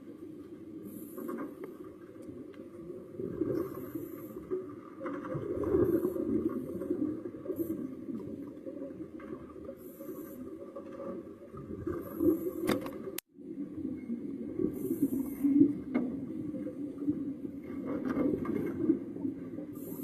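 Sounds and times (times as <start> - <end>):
muffled underwater rumble: 0.0 - 20.0.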